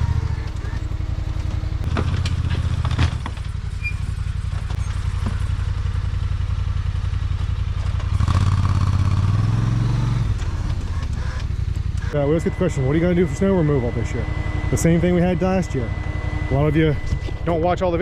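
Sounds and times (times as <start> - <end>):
plow vehicle engine running: 0.0 - 18.0.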